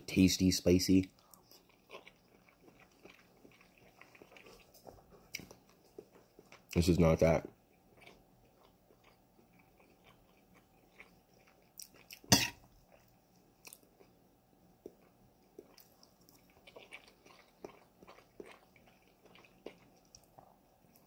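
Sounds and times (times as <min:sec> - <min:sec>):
person chewing: 0:01.0 - 0:21.0.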